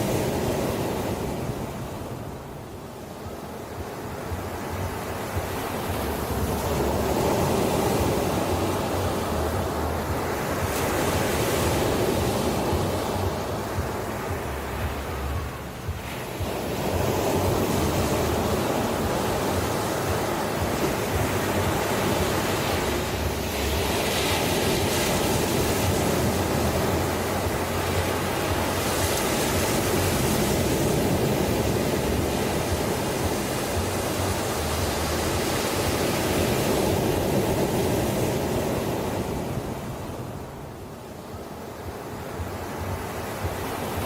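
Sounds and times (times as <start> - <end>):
ocean surf: 0.0 - 44.0.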